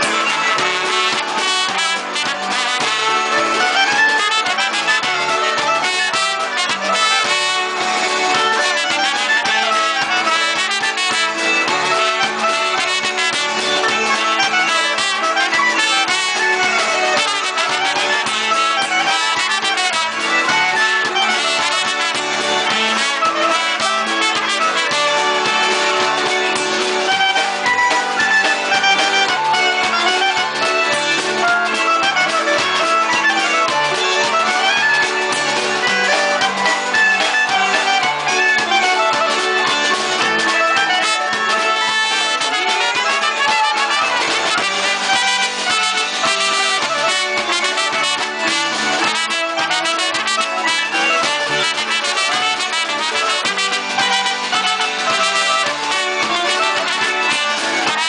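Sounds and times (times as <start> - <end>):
polka band playing: 0.0 - 58.0.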